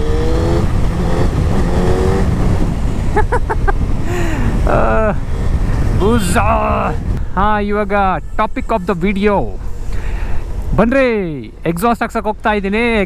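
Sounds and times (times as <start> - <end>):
road and wind noise: 0.0 - 13.0
vehicle engine rumble: 0.0 - 13.0.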